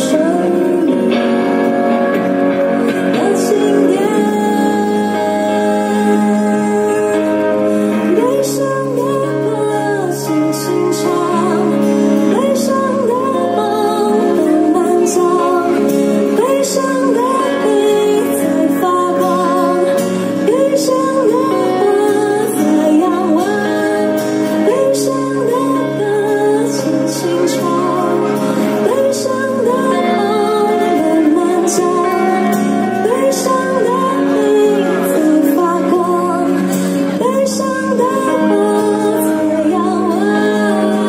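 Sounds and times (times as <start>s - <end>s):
acoustic and electric guitar: 0.0s - 41.0s
woman singing with vibrato: 0.0s - 41.0s.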